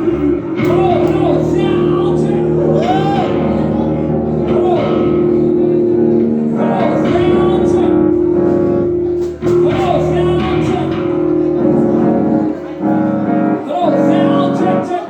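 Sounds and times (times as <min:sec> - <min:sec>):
guitar: 0:00.0 - 0:15.0
person singing long notes: 0:00.0 - 0:15.0.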